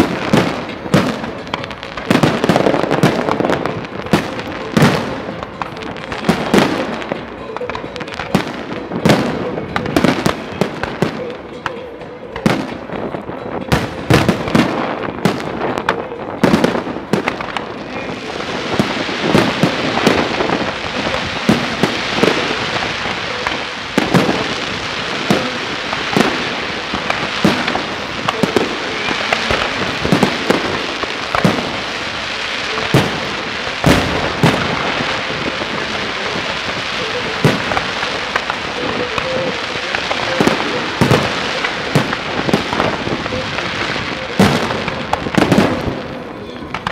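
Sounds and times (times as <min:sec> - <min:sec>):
crackle of bursting fireworks: 0:00.0 - 0:46.9
firework shells banging: 0:00.0 - 0:46.9.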